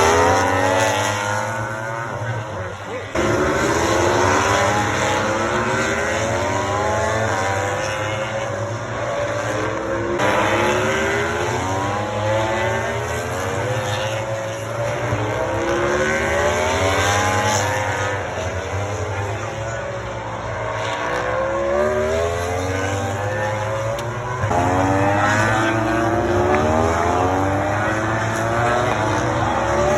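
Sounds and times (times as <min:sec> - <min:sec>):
racing motorcycles at full throttle: 0:00.0 - 0:29.9.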